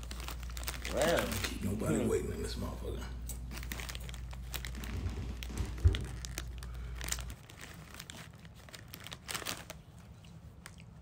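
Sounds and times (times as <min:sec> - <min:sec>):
chip bag crinkling: 0:00.0 - 0:11.0.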